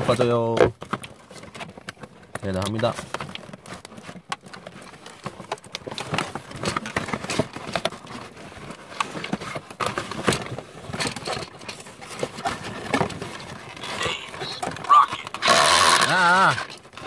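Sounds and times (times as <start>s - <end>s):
cardboard and plastic packaging crackling: 0.0s - 17.0s.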